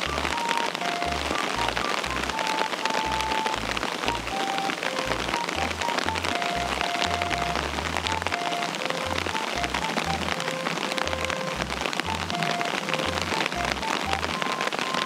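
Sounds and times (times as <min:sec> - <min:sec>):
rain patter: 0:00.0 - 0:15.0
simple melody over bass line: 0:00.0 - 0:15.0.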